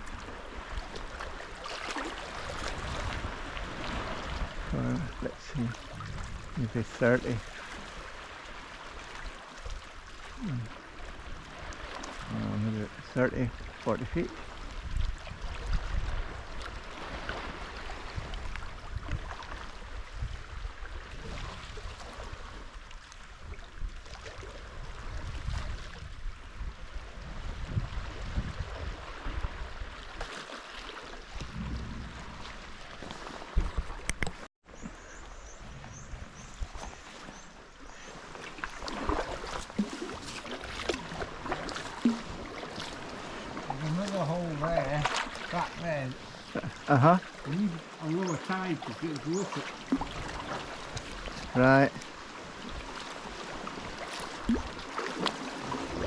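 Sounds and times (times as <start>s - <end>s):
wind rumble on microphone: 0.0s - 30.3s, 31.2s - 44.0s, 49.9s - 56.0s
paddle splashes: 0.0s - 56.0s
water lapping against hull: 0.0s - 56.0s.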